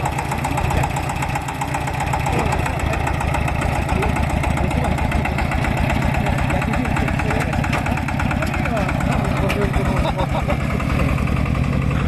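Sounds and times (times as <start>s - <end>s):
stationary engine running: 0.0s - 12.0s.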